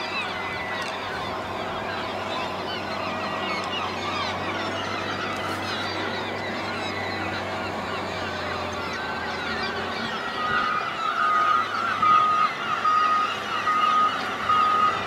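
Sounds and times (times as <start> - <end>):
diesel engine droning: 0.0 - 15.0
gulls calling: 0.0 - 15.0.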